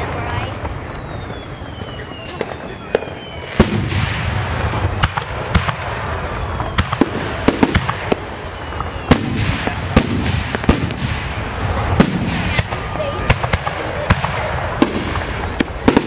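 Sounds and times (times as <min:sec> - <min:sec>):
fireworks bursting with sharp bangs: 0:00.0 - 0:16.0
steady background noise: 0:00.0 - 0:16.0.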